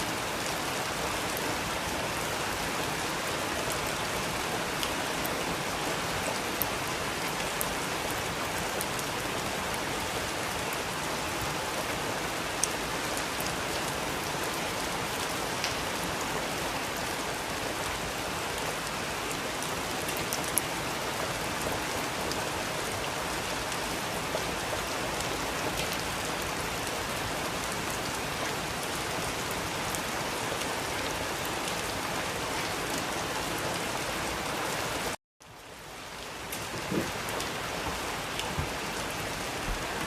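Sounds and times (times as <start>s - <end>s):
rain pattering: 0.0s - 40.0s.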